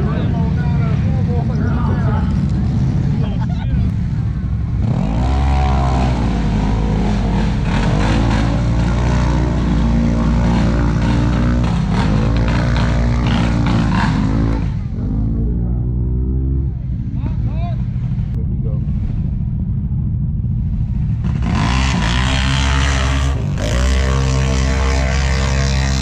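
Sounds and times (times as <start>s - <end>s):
racing engine revving: 4.7s - 26.0s.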